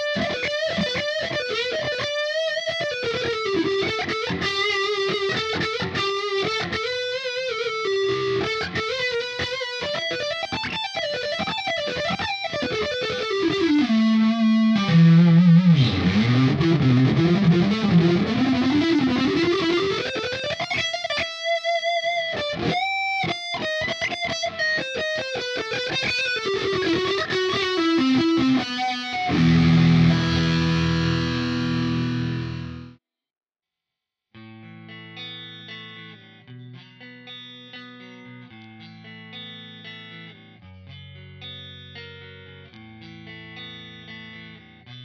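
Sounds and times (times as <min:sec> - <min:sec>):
electric guitar lead with bends: 0:00.0 - 0:33.0, 0:34.4 - 0:45.0.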